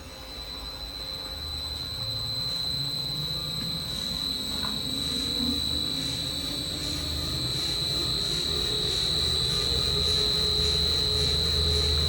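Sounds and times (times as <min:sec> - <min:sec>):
air handler blower hum: 0:00.0 - 0:12.0
steady high-pitched tone: 0:00.0 - 0:12.0.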